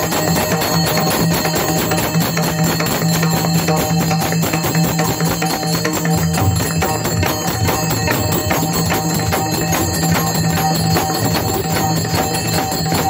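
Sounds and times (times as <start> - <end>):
hand drums in fast rhythm: 0.0 - 13.0.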